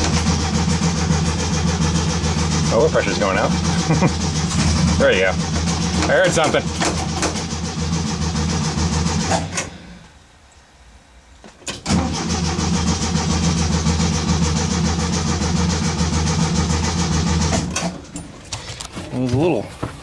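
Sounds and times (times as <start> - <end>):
engine cranking by starter: 0.0 - 10.1, 11.6 - 19.0.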